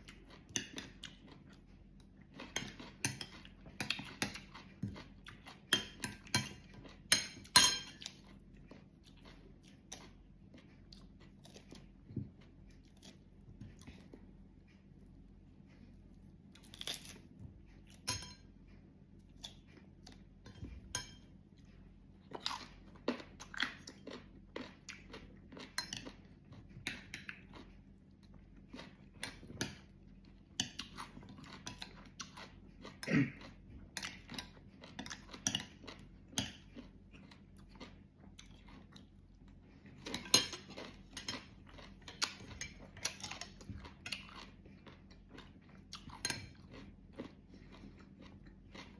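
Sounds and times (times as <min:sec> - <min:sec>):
person chewing crunchy fruit: 0:00.0 - 0:48.9.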